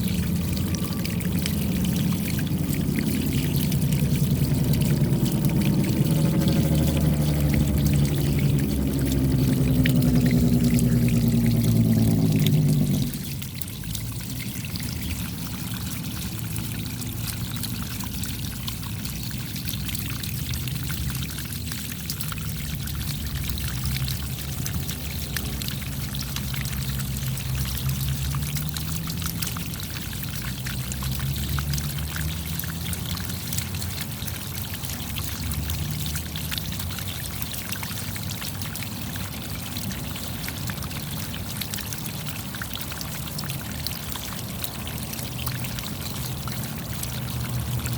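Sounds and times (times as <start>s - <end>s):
raindrops pattering: 0.0s - 47.9s
running water rushing: 0.0s - 47.9s.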